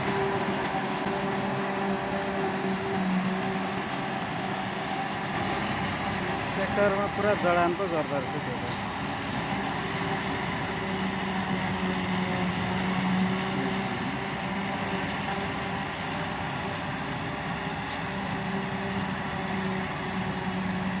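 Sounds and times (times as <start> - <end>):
tractor and harvester droning: 0.0 - 21.0.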